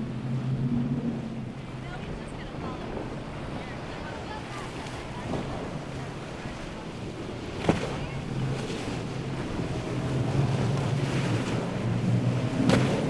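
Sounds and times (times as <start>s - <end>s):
outboard motors running: 0.0s - 13.0s
water rushing off hull: 0.0s - 13.0s.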